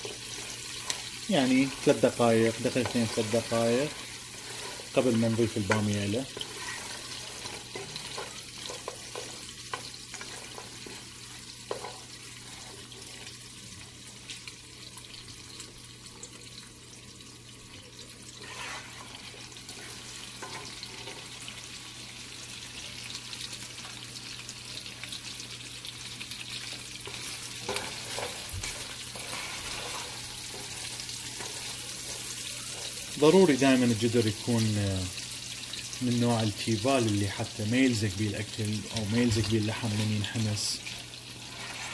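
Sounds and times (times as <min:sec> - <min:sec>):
meat sizzling in oil: 0:00.0 - 0:41.9.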